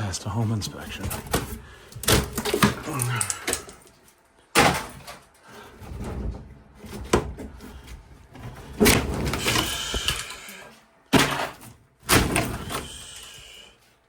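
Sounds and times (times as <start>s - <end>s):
knocks and clatter of demolition: 0.0s - 13.3s.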